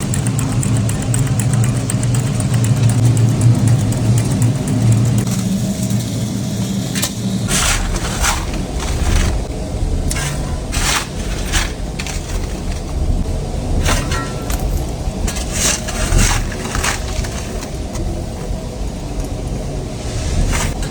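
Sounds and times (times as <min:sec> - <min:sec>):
machinery humming: 0:00.0 - 0:20.9.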